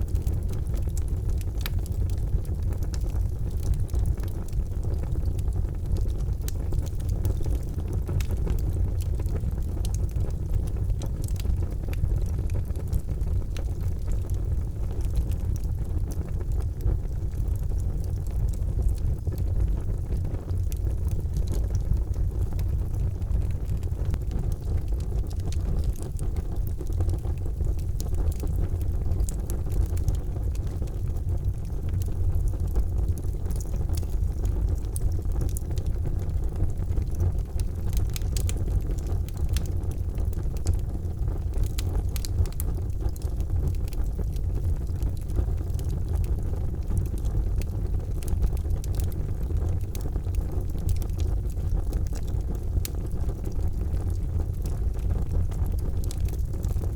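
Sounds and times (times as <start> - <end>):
fire crackles and pops: 0.0 - 56.9
low rumble of fire: 0.0 - 56.9.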